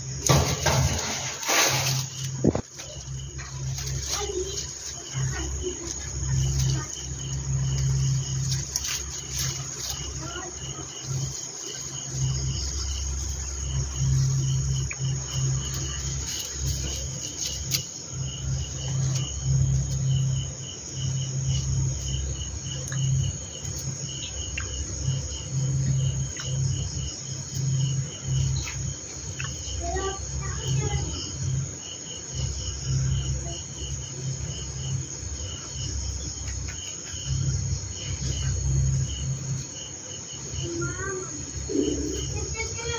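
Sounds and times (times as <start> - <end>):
crickets chirping: 0.0 - 42.9
low uneven rumble: 0.0 - 42.9.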